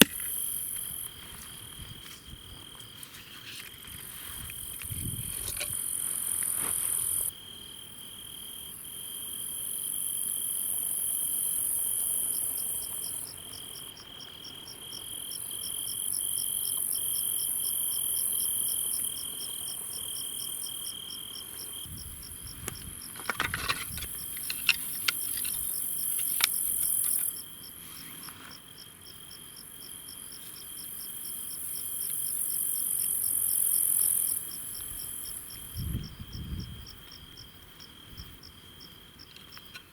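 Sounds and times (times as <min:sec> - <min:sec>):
cricket chirping: 0:00.0 - 0:39.9
insects trilling: 0:04.0 - 0:39.9.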